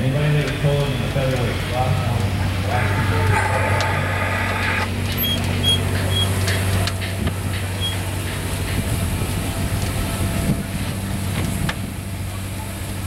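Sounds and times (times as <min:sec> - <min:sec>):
steam engine running: 0:00.0 - 0:13.0.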